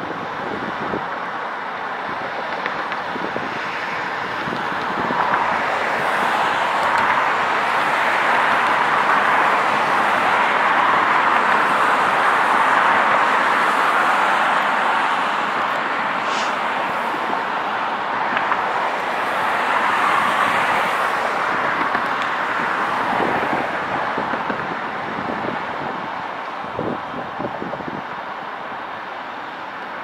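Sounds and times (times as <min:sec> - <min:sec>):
fire truck engines running: 0:00.0 - 0:30.0.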